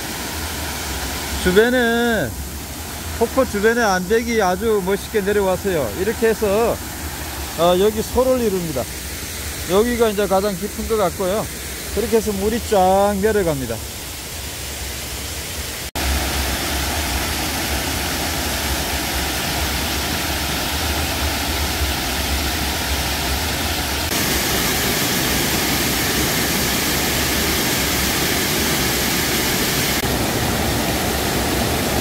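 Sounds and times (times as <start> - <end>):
waterfall rushing over rocks: 0.0 - 32.0.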